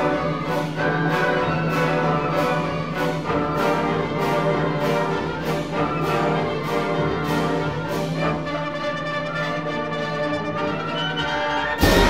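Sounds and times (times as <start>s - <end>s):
orchestral music with steady beat: 0.0s - 12.0s.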